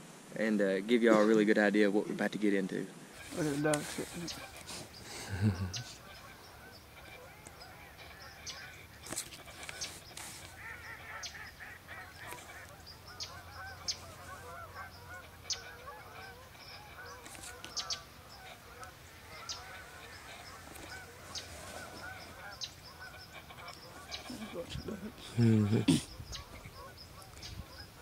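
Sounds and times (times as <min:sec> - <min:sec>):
flock of ducks and geese calling: 0:03.1 - 0:28.0
short sharp higher bird calls: 0:03.2 - 0:28.0.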